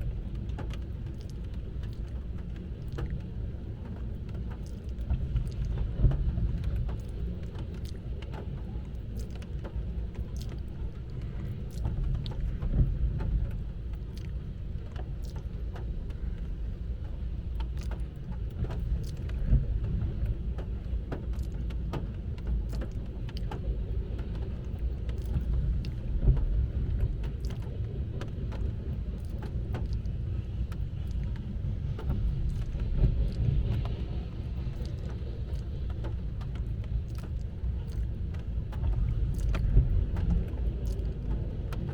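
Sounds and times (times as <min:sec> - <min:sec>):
raindrops ticking on car: 0:00.0 - 0:41.9
windshield wiper sweeping: 0:00.1 - 0:41.9.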